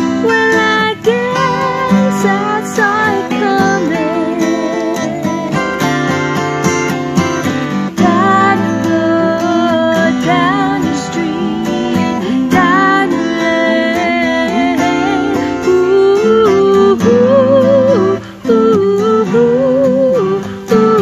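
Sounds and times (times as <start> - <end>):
acoustic guitars strumming: 0.0 - 21.0
woman singing: 0.0 - 21.0.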